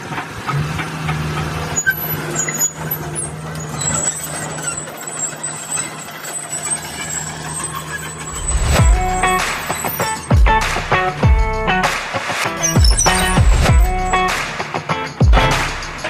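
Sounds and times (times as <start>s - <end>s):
excavator diesel engine humming: 0.0s - 14.4s.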